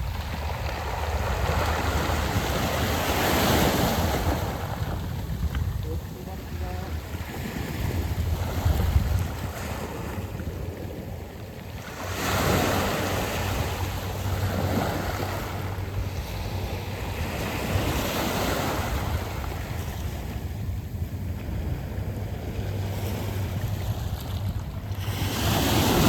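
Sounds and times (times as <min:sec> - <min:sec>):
waves washing over pebbles: 0:00.0 - 0:26.0
wind rumble on microphone: 0:00.0 - 0:26.0.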